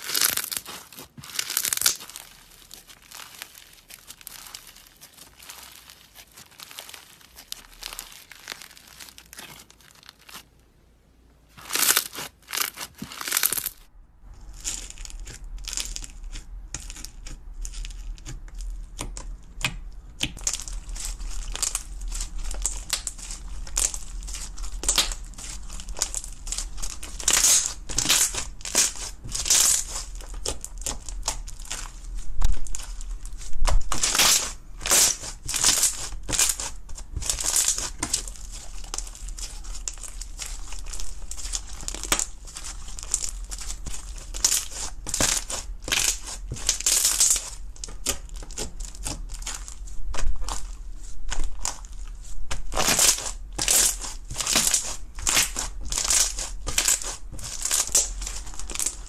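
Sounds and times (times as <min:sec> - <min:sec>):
crunchy slime crackling: 0:00.0 - 0:10.8, 0:11.5 - 0:59.0.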